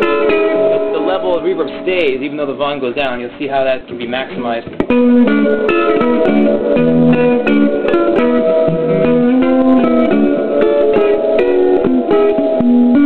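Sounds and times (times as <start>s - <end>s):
guitar through reverb amplifier: 0.0s - 3.0s, 4.6s - 13.0s.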